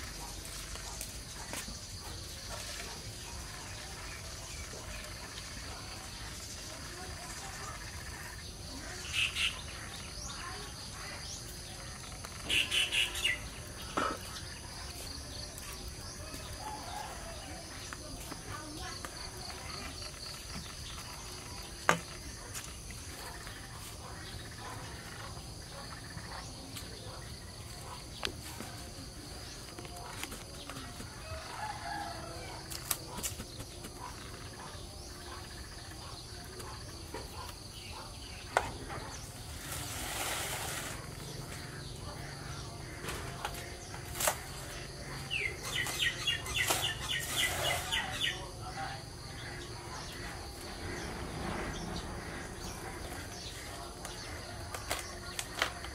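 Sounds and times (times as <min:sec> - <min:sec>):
bird calls: 0:00.0 - 0:18.0, 0:18.8 - 0:55.9.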